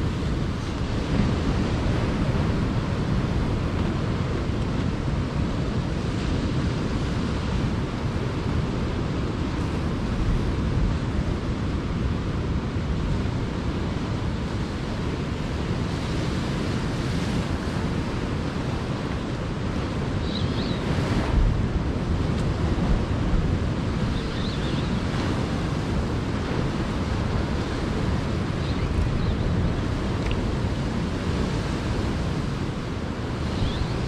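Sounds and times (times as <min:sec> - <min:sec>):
sea waves: 0:00.0 - 0:34.0
wind rumbling on microphone: 0:00.0 - 0:34.0.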